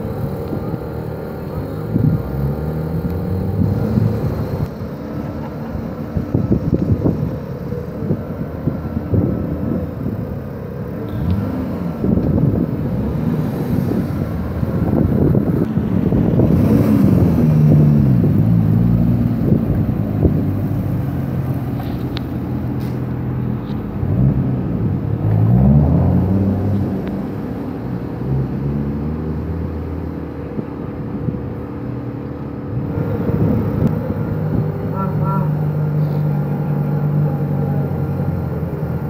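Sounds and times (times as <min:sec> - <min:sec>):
sports car engines accelerating: 0:00.0 - 0:39.0.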